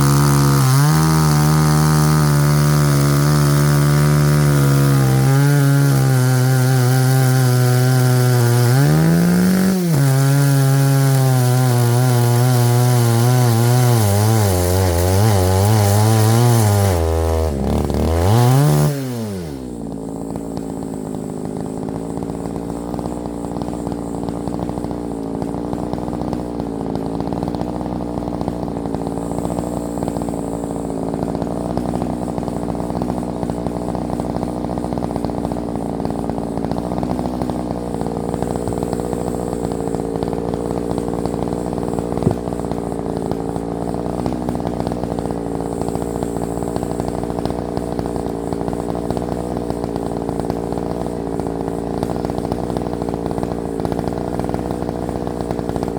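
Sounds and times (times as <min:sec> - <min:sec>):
chainsaw engine running: 0:00.0 - 0:55.9.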